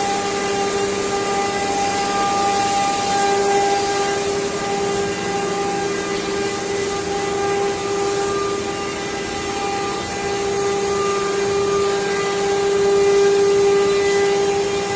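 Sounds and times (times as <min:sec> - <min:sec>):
router spindle cutting: 0:00.0 - 0:14.9.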